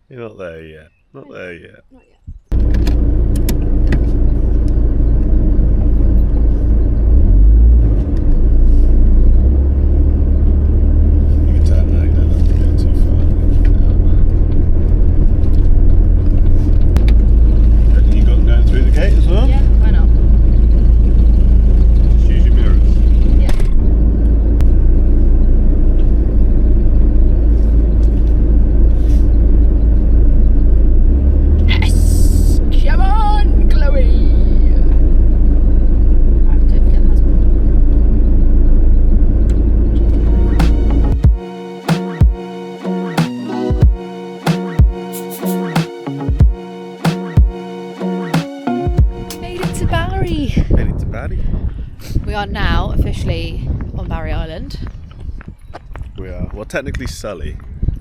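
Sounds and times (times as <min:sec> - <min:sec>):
van engine and tyres rumbling: 0:02.4 - 0:45.2, 0:46.0 - 0:58.0.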